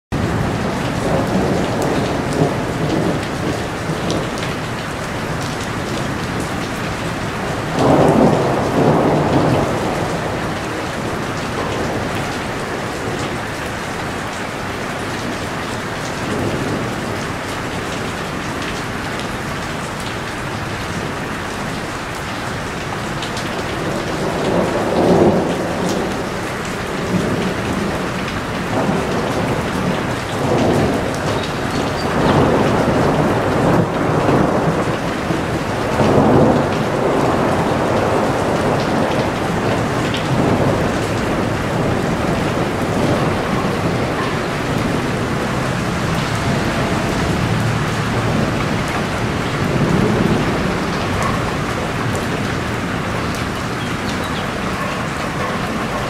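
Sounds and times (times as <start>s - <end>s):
heavy rain: 0.1s - 56.0s
thunder rumbling: 0.2s - 19.9s, 23.0s - 56.0s.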